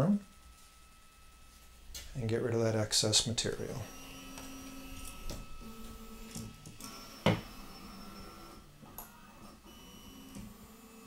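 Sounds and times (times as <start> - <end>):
printer motors whining: 0.0 - 11.0.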